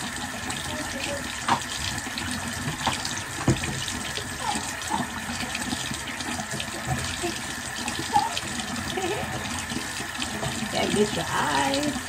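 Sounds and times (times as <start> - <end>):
tap running into sink: 0.0 - 12.0.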